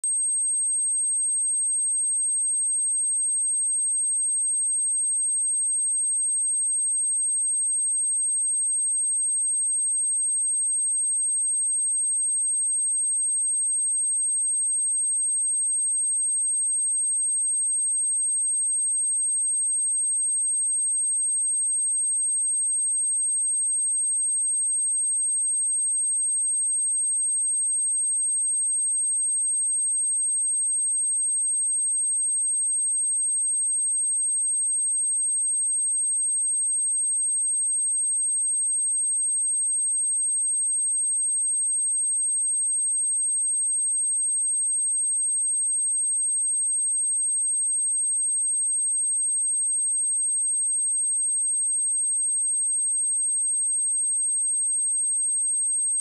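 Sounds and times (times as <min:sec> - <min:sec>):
high-pitched sine test tone: 0:00.0 - 0:56.0.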